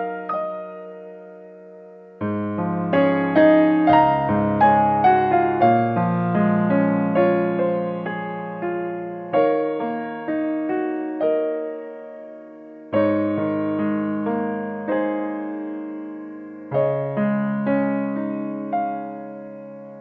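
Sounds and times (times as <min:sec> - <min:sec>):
slow gentle piano piece: 0:00.0 - 0:20.0.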